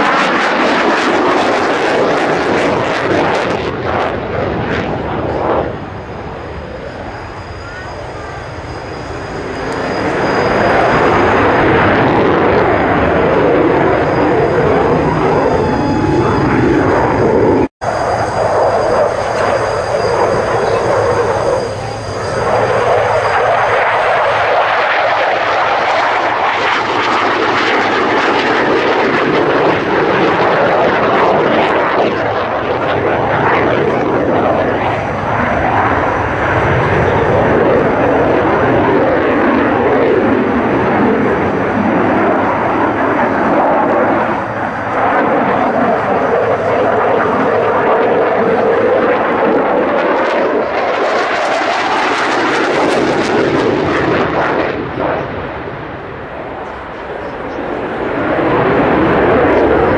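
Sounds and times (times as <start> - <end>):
fighter jet roar: 0.0 - 59.9.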